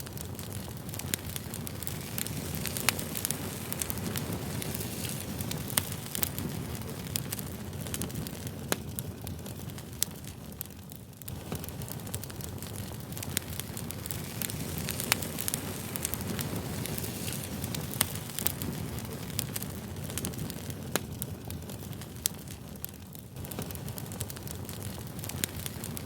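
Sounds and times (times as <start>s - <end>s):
campfire flames rushing: 0.0s - 26.0s
fire crackles and pops: 0.0s - 26.0s.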